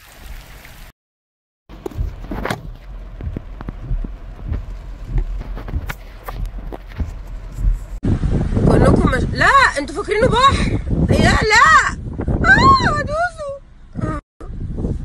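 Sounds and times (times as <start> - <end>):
wind buffeting microphone: 1.7 - 15.0.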